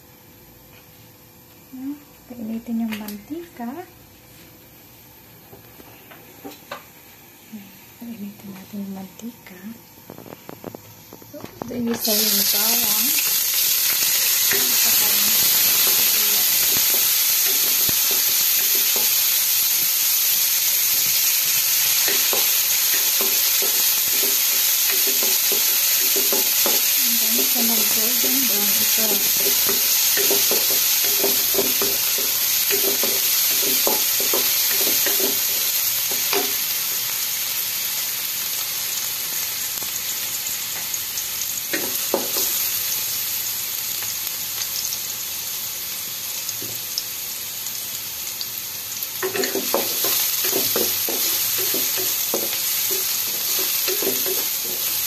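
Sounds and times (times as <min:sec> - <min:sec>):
garlic sizzling in hot oil: 0:06.4 - 0:55.0.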